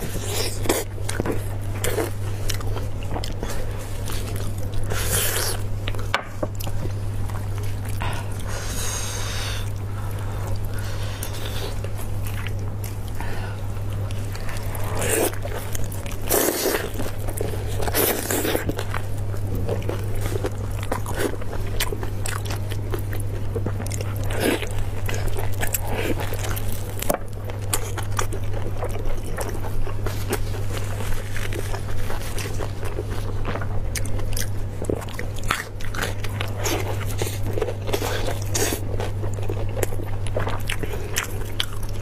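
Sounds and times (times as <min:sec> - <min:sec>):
steady low hum: 0:00.0 - 0:42.0
wet biting and chewing: 0:00.0 - 0:42.0.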